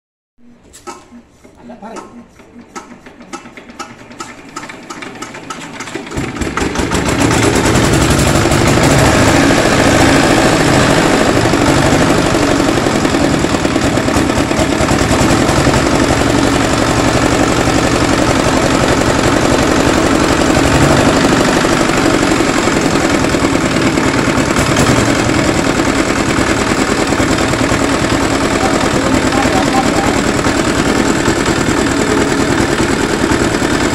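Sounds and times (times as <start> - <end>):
small engine running: 4.6 - 33.9.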